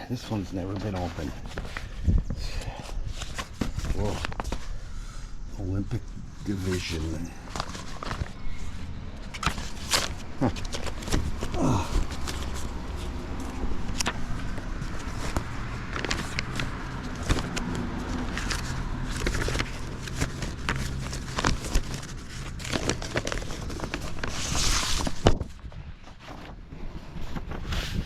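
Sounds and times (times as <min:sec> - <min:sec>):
paper rustling and flipping: 0:00.2 - 0:05.3, 0:05.9 - 0:28.0.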